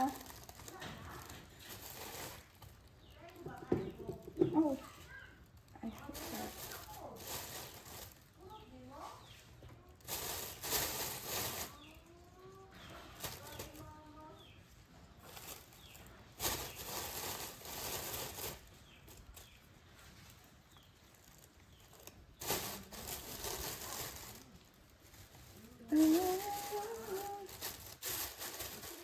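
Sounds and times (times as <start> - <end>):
plastic bags rustling: 0.0 - 29.0.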